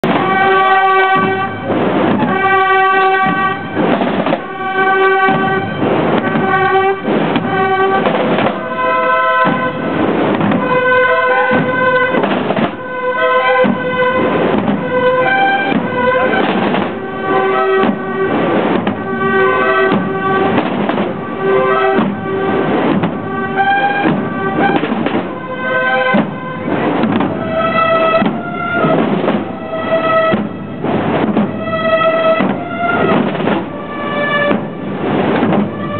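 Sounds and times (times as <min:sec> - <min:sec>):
held bugle notes: 0:00.0 - 0:35.9
steady drumbeats: 0:00.0 - 0:35.9.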